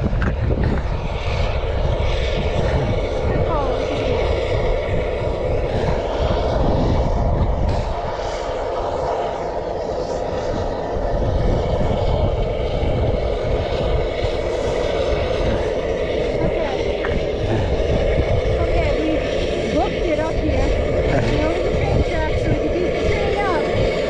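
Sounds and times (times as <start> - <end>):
locomotive droning rumble: 0.0 - 24.0
wind buffeting microphone: 0.0 - 24.0.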